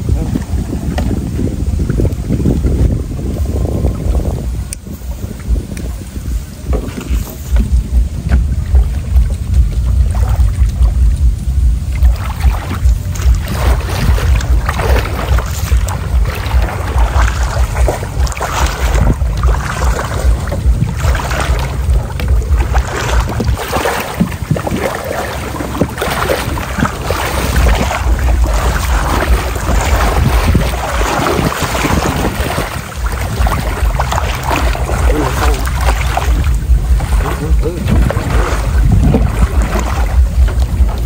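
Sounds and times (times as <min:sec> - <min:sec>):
wading through water splashing: 0:00.0 - 0:41.0
wind rumble on microphone: 0:00.0 - 0:41.0.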